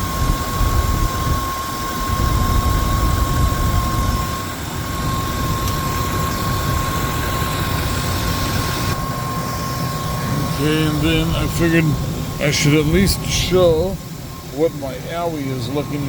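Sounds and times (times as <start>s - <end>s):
water pump whine: 0.0s - 16.0s
engine idling rumble: 2.0s - 16.0s.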